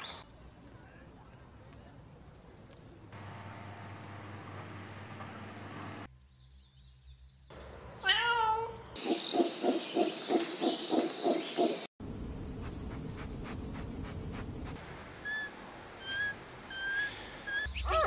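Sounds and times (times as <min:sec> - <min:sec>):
outdoor noise: 0:00.0 - 0:18.0.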